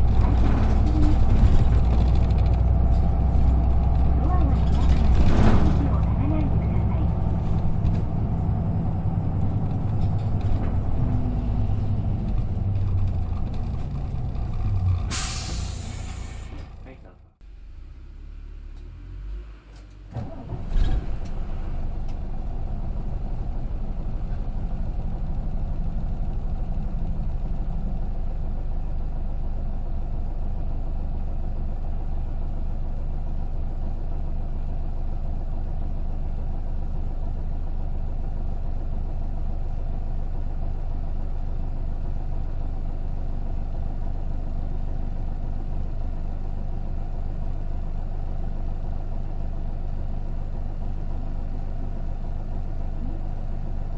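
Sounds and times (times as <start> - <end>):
bus diesel engine drone: 0.0 - 53.9.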